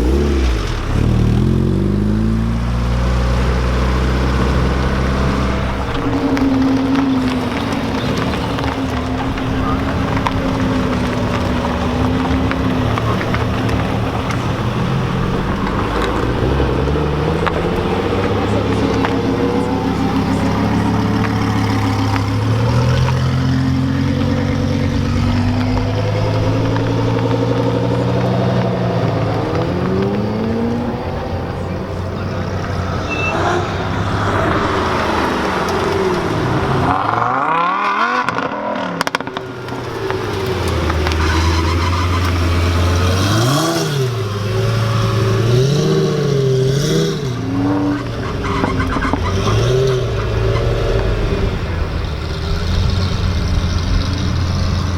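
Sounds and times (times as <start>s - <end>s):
car engines revving and passing: 0.0s - 54.9s.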